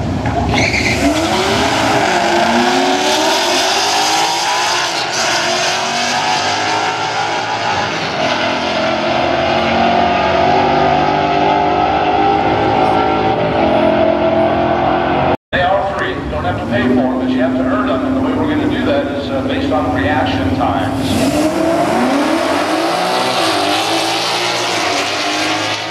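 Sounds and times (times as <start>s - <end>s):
car engines at full throttle: 0.0s - 25.9s.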